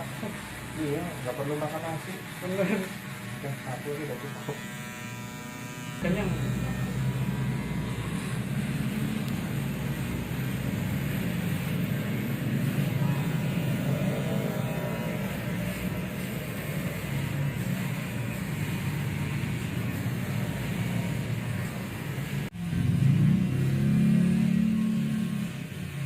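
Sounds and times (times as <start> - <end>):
electric shaver humming: 0.0 - 26.0.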